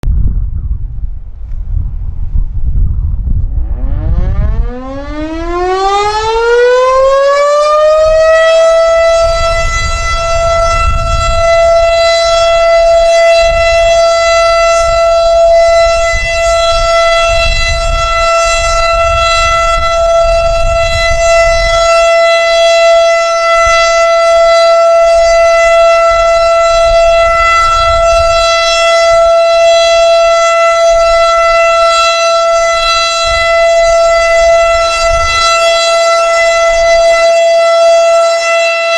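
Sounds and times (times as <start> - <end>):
wind rumble on microphone: 0.0 - 38.9
outdoor warning siren: 3.1 - 38.9.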